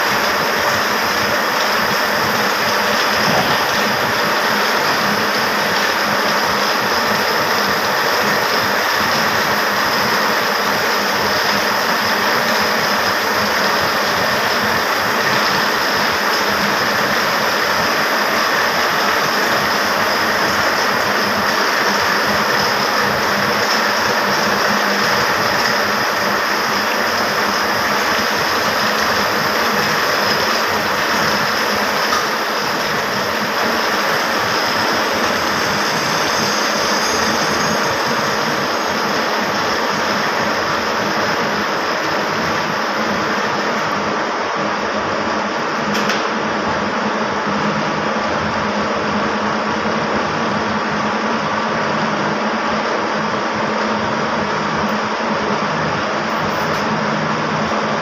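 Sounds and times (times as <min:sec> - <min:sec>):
powerloom machinery clatter: 0:00.0 - 0:58.0.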